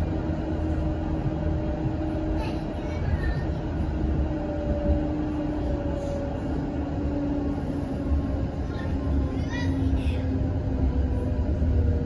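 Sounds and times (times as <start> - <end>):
tram interior rumble: 0.0 - 12.0
tram motor hum: 0.0 - 12.0.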